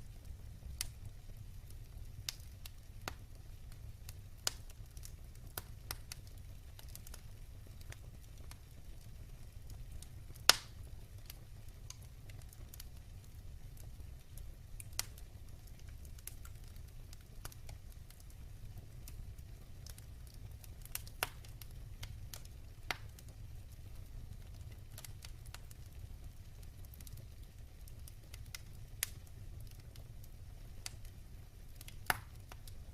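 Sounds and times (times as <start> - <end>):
fire crackling and popping: 0.0 - 32.9
fire low rumble: 0.0 - 32.9.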